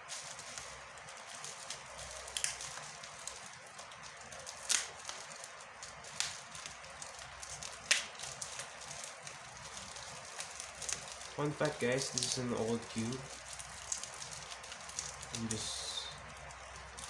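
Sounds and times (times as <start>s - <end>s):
bubble wrap crinkling: 0.0s - 17.0s
bubble wrap snapping: 0.0s - 17.0s.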